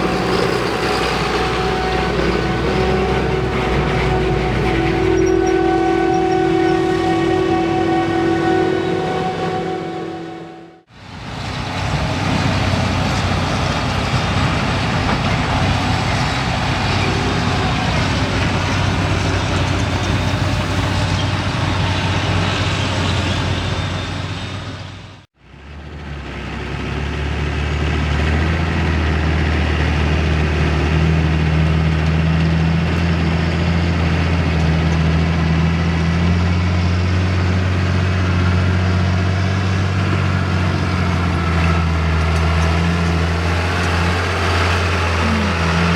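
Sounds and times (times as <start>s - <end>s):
diesel engines of farm machinery: 0.0s - 10.1s, 10.9s - 45.9s.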